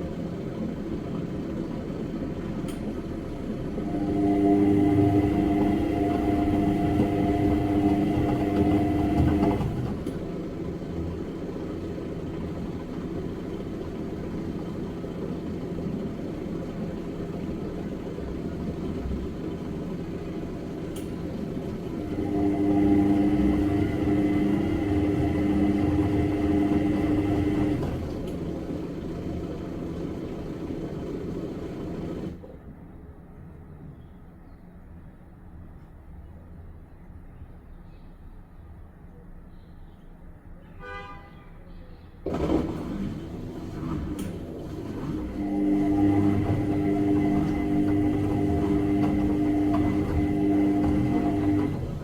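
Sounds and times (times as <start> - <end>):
washing machine motor whine: 0.0 - 32.6, 42.2 - 52.0.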